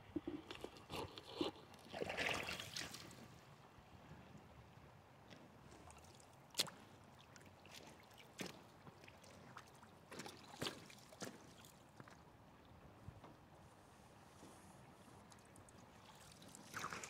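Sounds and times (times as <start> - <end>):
faint river water running: 0.0 - 17.0.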